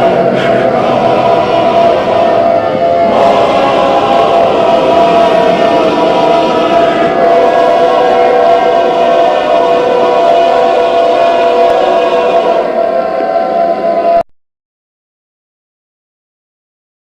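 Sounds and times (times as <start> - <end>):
synthesized alarm drone: 0.0 - 14.2.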